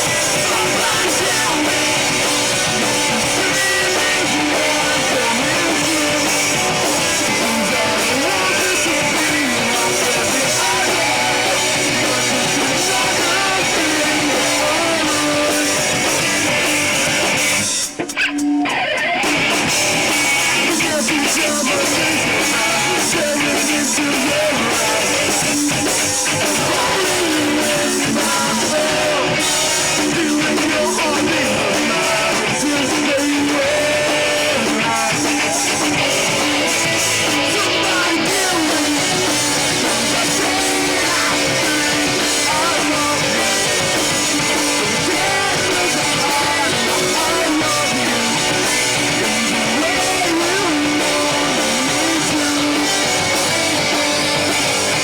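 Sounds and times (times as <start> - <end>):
person singing: 0.0 - 17.4, 18.7 - 55.0
live rock band playing: 0.0 - 55.0.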